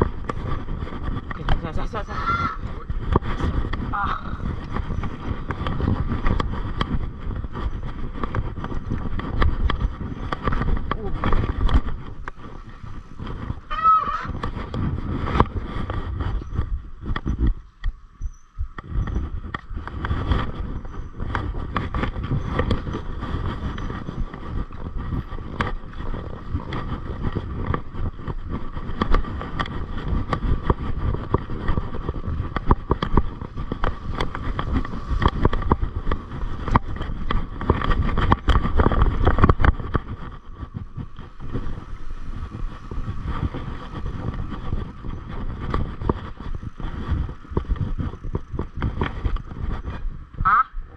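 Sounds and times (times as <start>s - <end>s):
tyres rumbling on dirt: 0.0s - 17.3s, 19.0s - 50.6s
bike clicks and rattles: 0.0s - 50.9s
wind on microphone: 0.0s - 50.9s.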